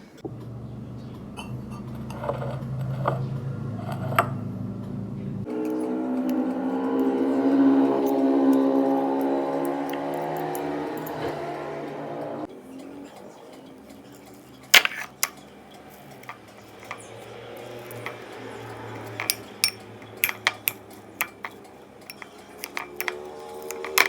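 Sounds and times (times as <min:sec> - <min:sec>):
utensils clinking against dishes: 0:01.4 - 0:04.4, 0:05.5 - 0:11.5, 0:12.6 - 0:24.0.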